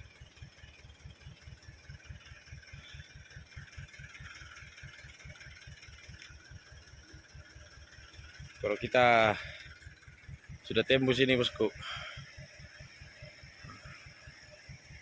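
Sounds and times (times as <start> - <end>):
diesel truck engine labouring: 0.0 - 15.0.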